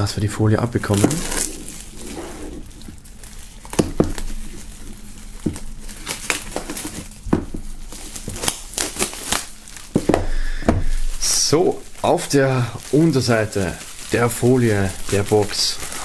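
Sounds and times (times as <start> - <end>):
plastic shrink-wrap crinkling: 0.0 - 16.0
plastic film snapping: 0.8 - 16.0.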